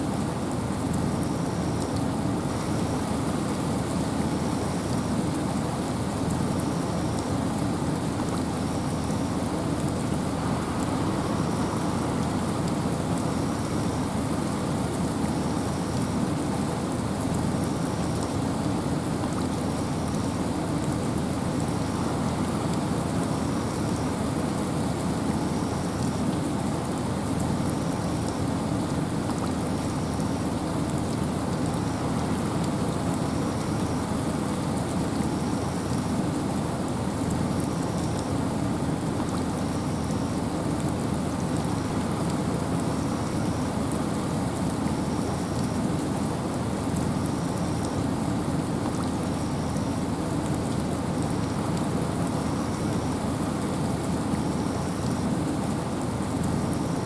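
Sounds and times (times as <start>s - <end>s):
rain falling: 0.0s - 57.0s
wind: 0.0s - 57.0s.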